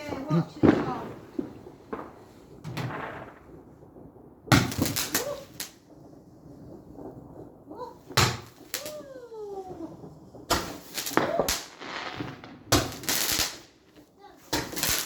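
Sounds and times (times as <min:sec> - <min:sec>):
fireworks banging: 0:00.0 - 0:15.0.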